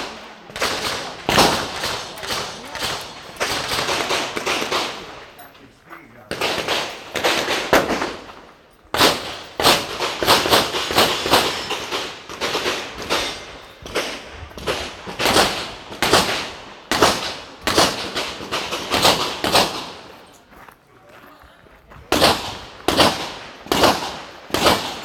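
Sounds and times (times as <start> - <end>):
pistol shots: 0.1 - 5.2, 6.3 - 20.2, 22.1 - 25.0.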